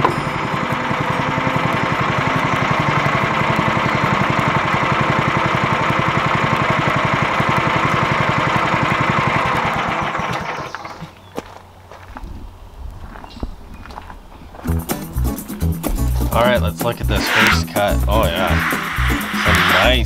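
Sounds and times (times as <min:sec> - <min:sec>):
gasoline engine running: 0:00.0 - 0:11.2, 0:14.7 - 0:20.0.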